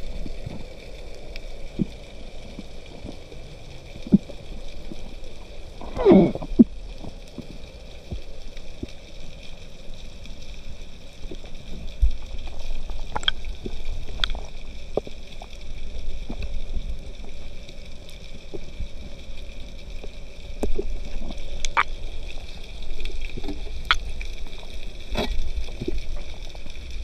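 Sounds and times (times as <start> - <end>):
underwater rumble of moving water: 0.0 - 27.0.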